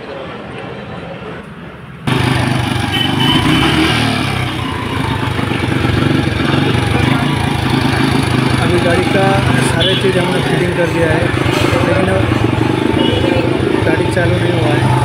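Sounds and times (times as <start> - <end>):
motorcycle engine running: 2.1 - 15.0.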